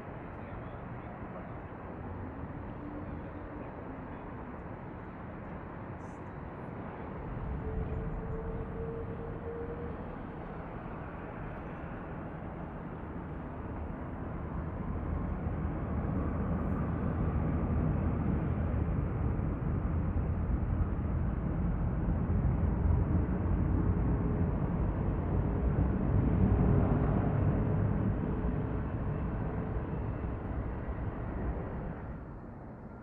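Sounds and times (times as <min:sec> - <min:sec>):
jet engine rumble with whine: 0:00.0 - 0:33.0.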